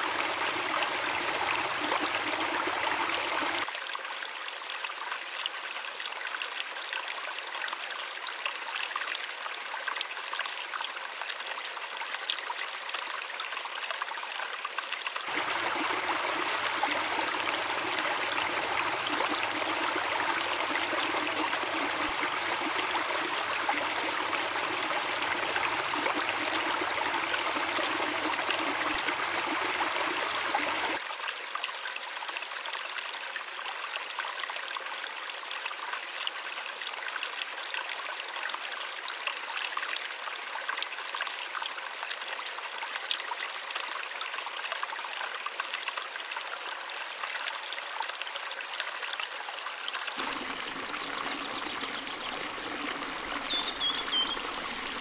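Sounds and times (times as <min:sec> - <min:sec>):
waterfall and stream running: 0:00.0 - 0:55.0.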